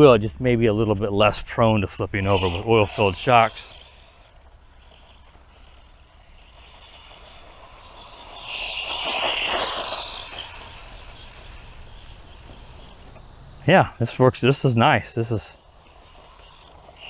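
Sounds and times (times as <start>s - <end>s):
rc car motor whining: 1.5s - 17.0s.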